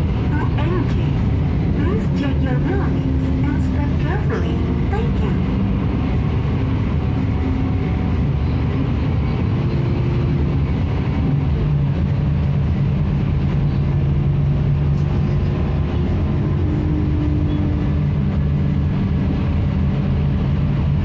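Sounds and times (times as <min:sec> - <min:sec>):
bus diesel engine running: 0:00.0 - 0:21.0
road and tyre noise: 0:00.0 - 0:21.0.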